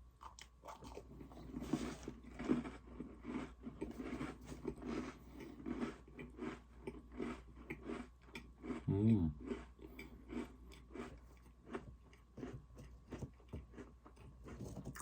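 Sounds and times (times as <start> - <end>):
person chewing cookies: 0.0 - 15.0.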